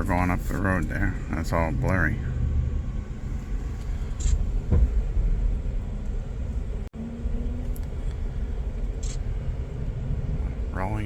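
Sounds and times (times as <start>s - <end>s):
train car rumbling: 0.0s - 11.0s.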